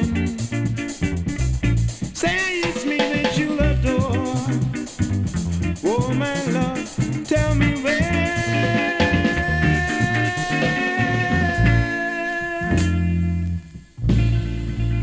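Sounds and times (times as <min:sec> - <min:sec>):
funk band playing: 0:00.0 - 0:13.4, 0:14.0 - 0:15.0.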